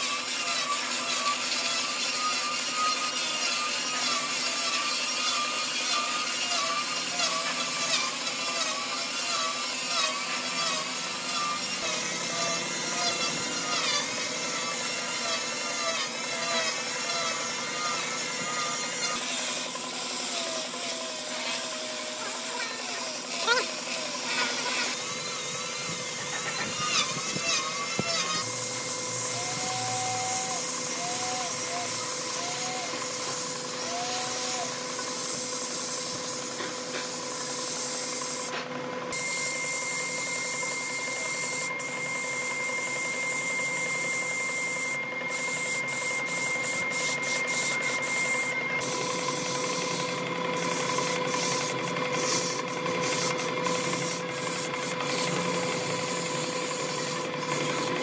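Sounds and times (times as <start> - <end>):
power tool cutting wood: 0.0 - 58.0.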